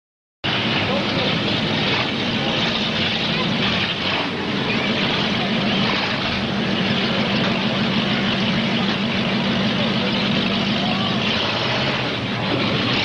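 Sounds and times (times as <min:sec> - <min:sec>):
car engines droning: 0:00.4 - 0:13.0.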